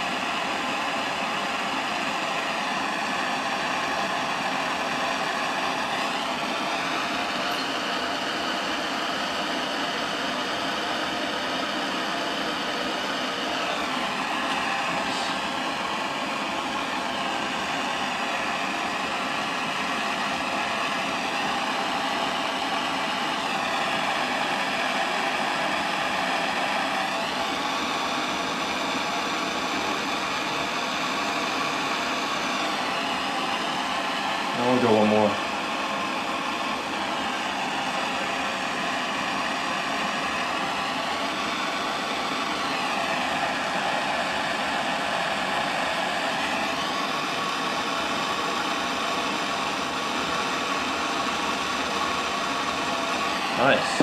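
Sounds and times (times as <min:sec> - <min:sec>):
electric blower motor whirring: 0:00.0 - 0:54.0.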